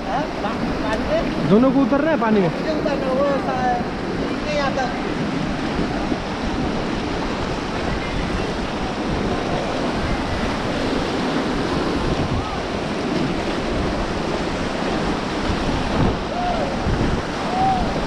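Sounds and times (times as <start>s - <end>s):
rushing river water: 0.0s - 18.0s
wind buffeting microphone: 0.0s - 18.0s.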